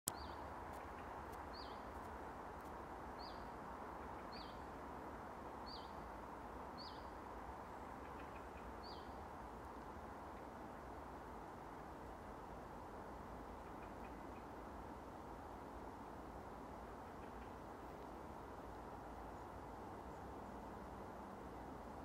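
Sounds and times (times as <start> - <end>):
steady background hiss: 0.1 - 22.0.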